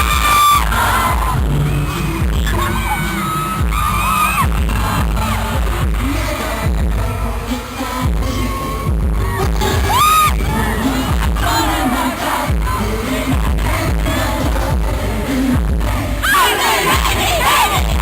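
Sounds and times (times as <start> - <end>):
booming bass beat: 0.0 - 18.0
person singing: 0.0 - 18.0
pop dance music over a pa: 0.0 - 18.0.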